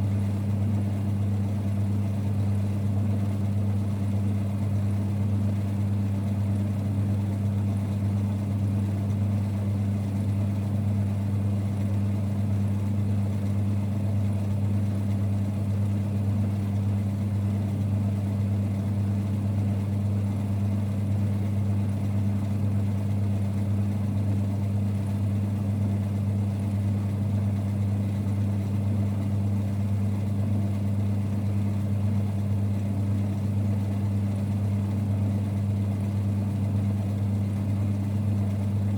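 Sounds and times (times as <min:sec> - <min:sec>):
lathe running with hum: 0:00.0 - 0:38.9.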